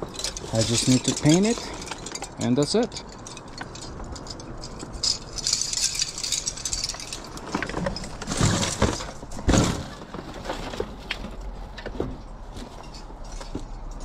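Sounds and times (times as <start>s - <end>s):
rustling of discarded items: 0.0s - 14.0s.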